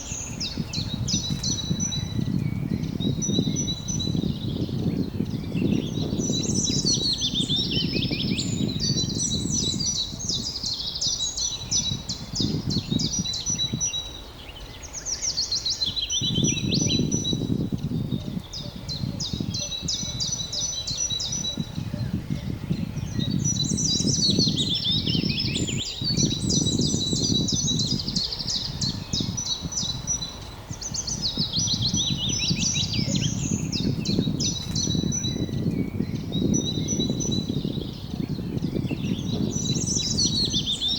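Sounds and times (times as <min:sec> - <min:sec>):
songbird singing with trills: 0:00.0 - 0:40.9.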